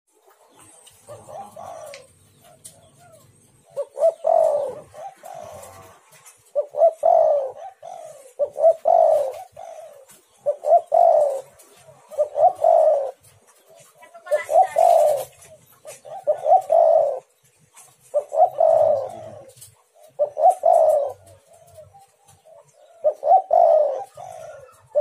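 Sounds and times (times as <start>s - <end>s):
dove cooing: 0.2s - 25.0s.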